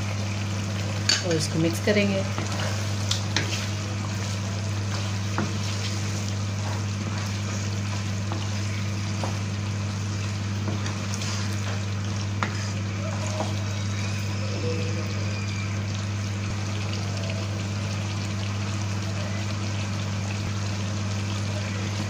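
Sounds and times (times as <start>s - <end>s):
curry sizzling in oil: 0.0s - 22.0s.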